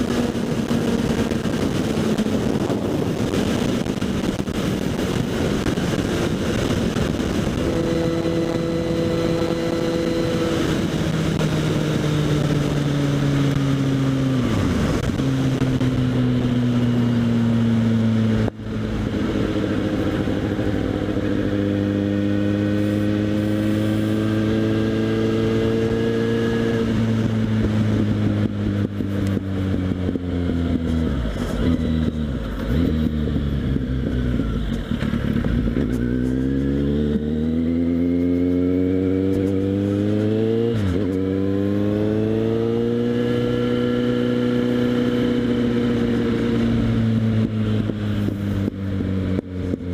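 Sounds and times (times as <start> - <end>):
motorcycle engine on the move: 0.0 - 49.9.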